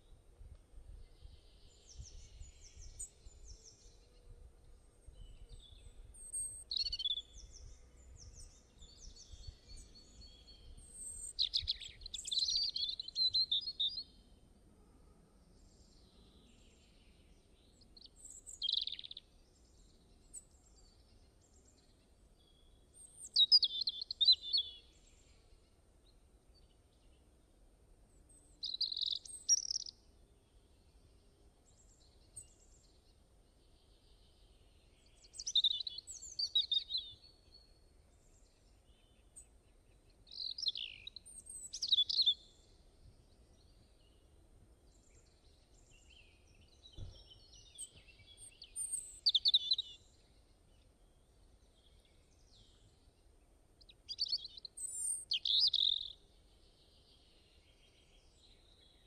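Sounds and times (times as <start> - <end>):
bird singing chirping phrases: 5.1 - 14.2, 15.6 - 25.5, 28.2 - 59.0.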